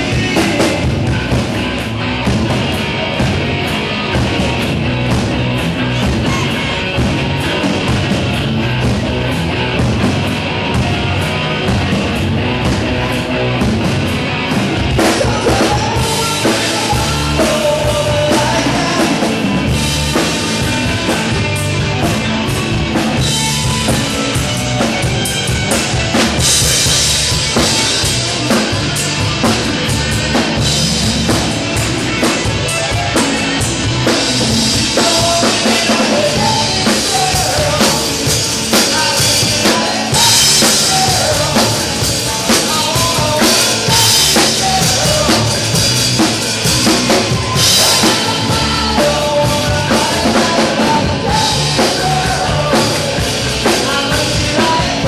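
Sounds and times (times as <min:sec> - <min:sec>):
drum kit beat: 0:00.0 - 0:55.0
rock band playing loud: 0:00.0 - 0:55.0.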